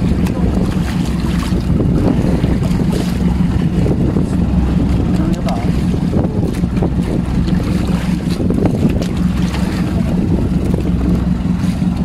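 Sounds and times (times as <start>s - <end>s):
boat engine humming: 0.0s - 12.0s
water washing against hull: 0.0s - 12.0s
wind buffeting microphone: 0.0s - 12.0s.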